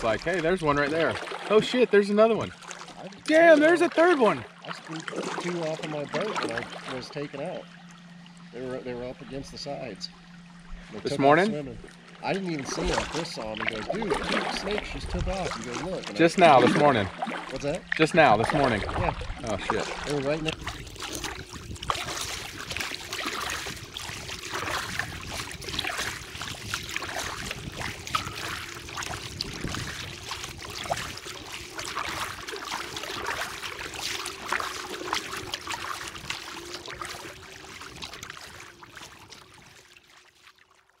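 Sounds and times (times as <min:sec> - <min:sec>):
paddle strokes splashing: 0:00.0 - 0:07.8, 0:11.8 - 0:41.0
faint steady hum: 0:00.0 - 0:40.1
water lapping against hull: 0:00.0 - 0:41.0.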